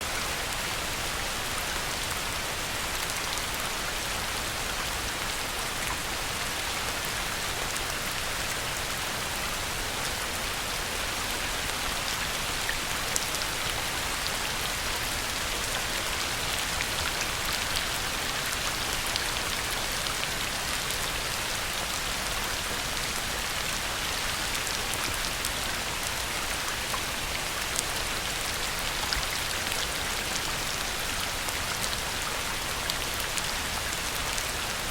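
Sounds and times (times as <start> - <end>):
heavy rain on a pond: 0.0 - 34.9.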